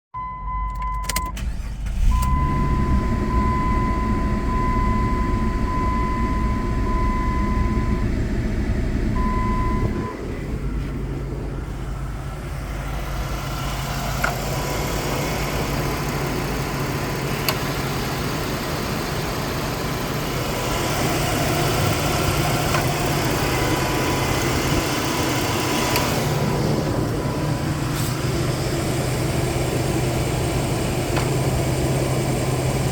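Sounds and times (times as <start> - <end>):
car engine running: 0.7 - 32.9.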